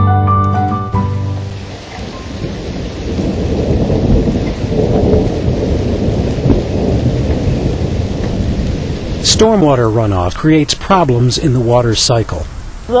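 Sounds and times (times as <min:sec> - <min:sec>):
steady rainfall: 0:00.5 - 0:13.0
thunder rumbling: 0:00.9 - 0:13.0.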